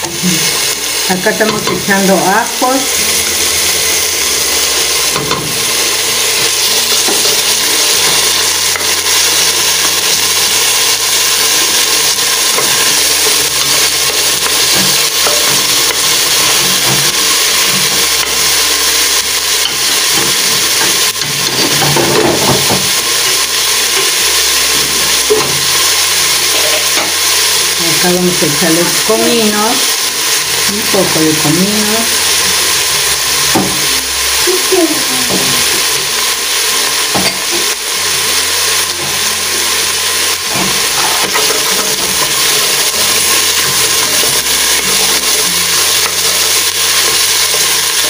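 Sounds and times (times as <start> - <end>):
onion and garlic sizzling in oil: 0.0 - 48.0.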